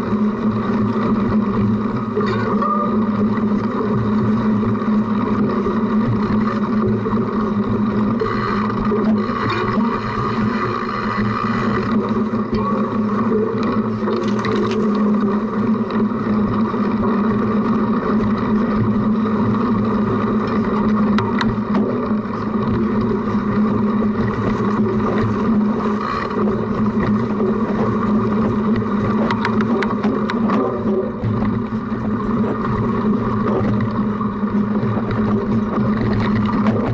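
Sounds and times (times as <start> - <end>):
bike tyre and frame vibration: 0.0 - 36.9.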